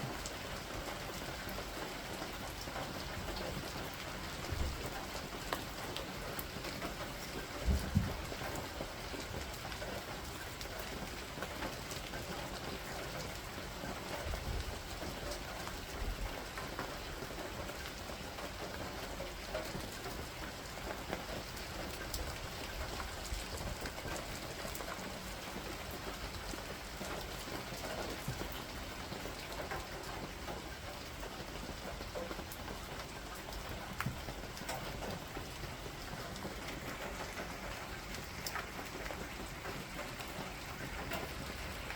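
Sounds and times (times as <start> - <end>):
raindrops striking sharply: 0.0 - 41.9
steady rain: 0.0 - 41.9.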